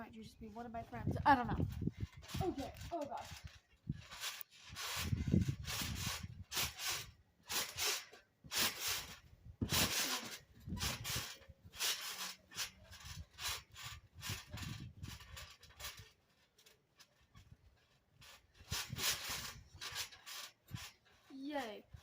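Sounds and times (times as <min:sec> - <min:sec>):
rustling and rubbing noises: 0:00.0 - 0:22.0.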